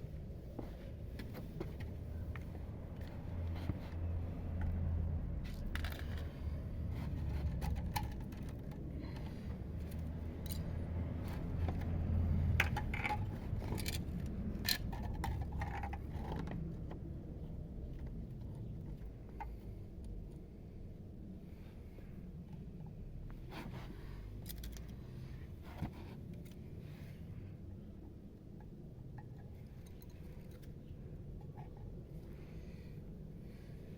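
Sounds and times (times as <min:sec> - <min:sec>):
steady low rumble: 0:00.0 - 0:33.9.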